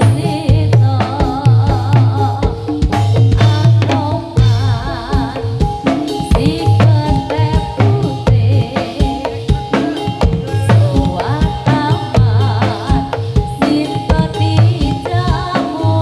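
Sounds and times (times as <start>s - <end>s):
hand drums beating: 0.0s - 16.0s.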